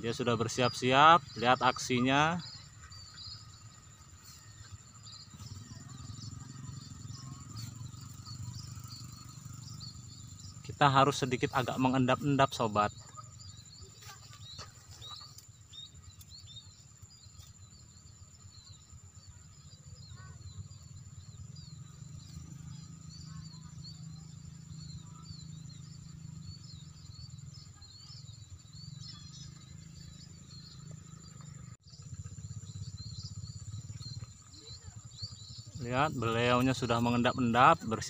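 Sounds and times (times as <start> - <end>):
flock of birds twittering: 0.0 - 38.0
high insect-like whine: 0.0 - 38.0.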